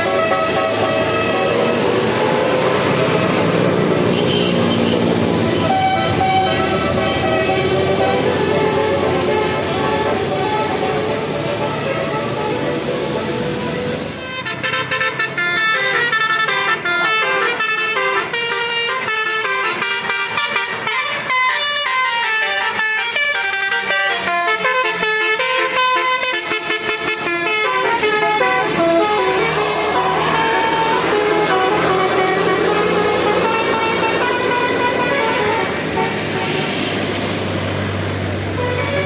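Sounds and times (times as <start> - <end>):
multi-tone bus horn melody: 0.0 - 39.0.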